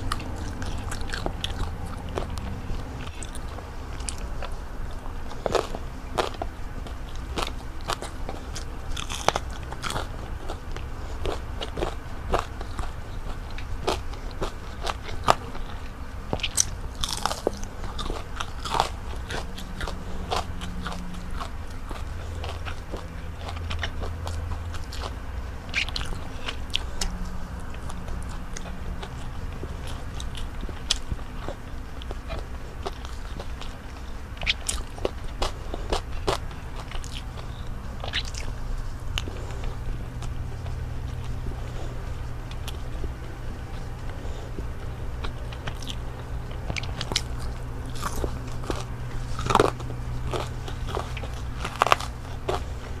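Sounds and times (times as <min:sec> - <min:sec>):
crunchy fried food chewing: 0:00.0 - 0:53.0
soft chewing: 0:00.0 - 0:53.0.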